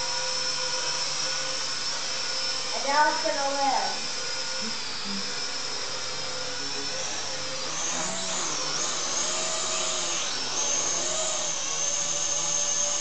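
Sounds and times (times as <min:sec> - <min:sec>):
toy drone propellers whining: 0:00.0 - 0:13.0.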